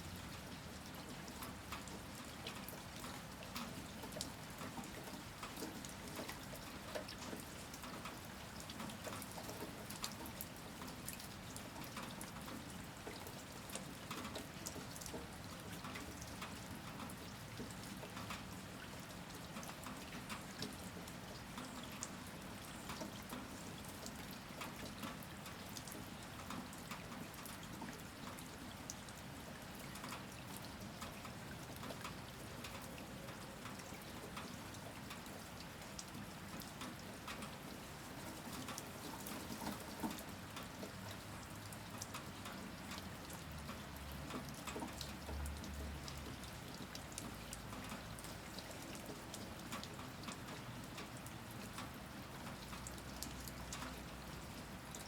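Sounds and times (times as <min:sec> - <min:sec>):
rain dripping on hard surface: 0:00.0 - 0:55.0.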